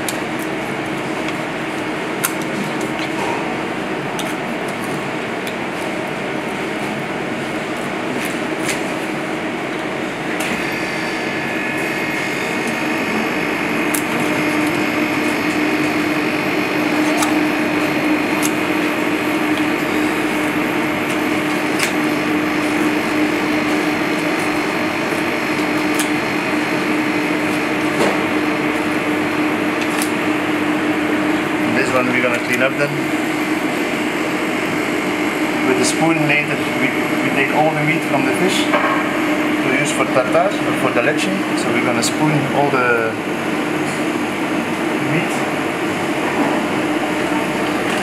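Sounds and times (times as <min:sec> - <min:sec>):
kitchen ventilation hum: 0:00.0 - 0:48.0.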